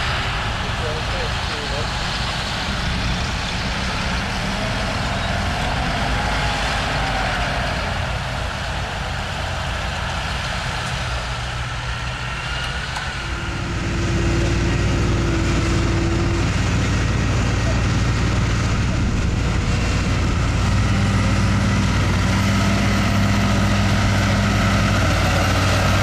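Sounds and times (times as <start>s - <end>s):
steady whine: 0.0s - 26.0s
tractor engine rumbling: 0.0s - 26.0s.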